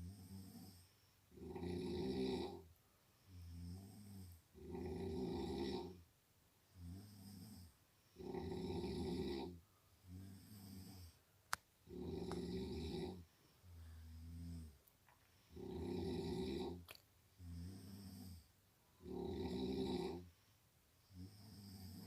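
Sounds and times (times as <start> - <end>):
snoring: 0.0 - 6.0, 6.7 - 11.2, 11.8 - 14.8, 15.5 - 20.3, 21.1 - 22.0.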